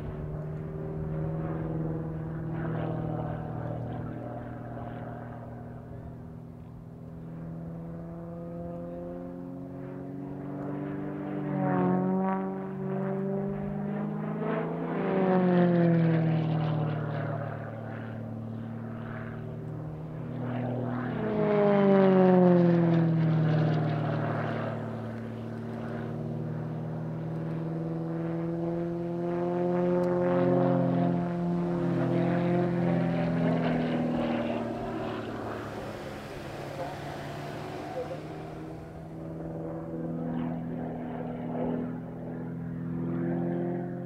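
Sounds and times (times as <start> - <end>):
propeller plane engine: 0.0 - 44.0.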